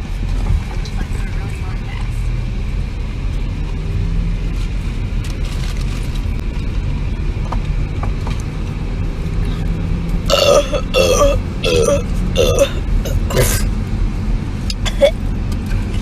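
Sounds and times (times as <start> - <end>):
car interior rumble: 0.0 - 16.0.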